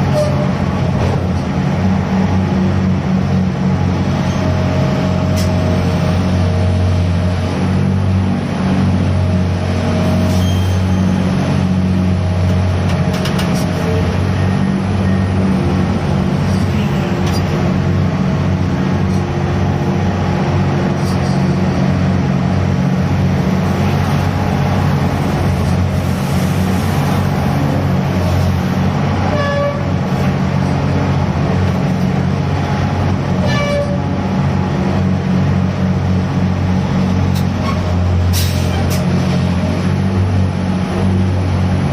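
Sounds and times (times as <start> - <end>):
grab crane machinery running: 0.0 - 41.9.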